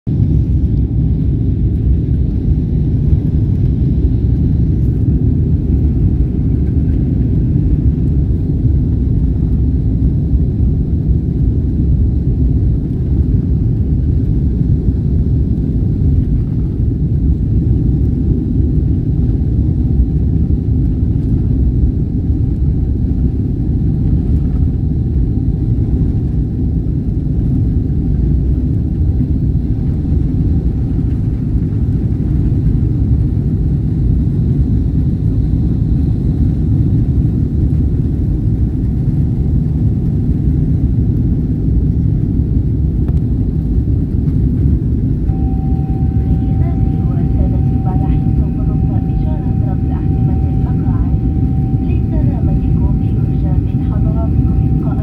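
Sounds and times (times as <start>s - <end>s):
faint steady whine: 0.1s - 55.0s
jet engines rumbling: 0.1s - 55.0s.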